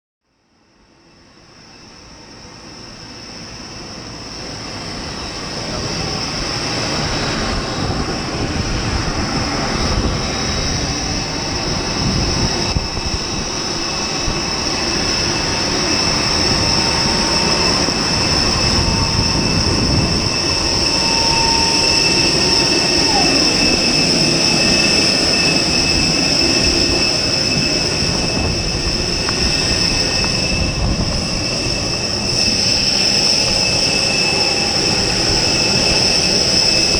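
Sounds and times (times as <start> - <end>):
jet engine whine: 0.3 - 36.9
aircraft rumble: 1.2 - 36.9.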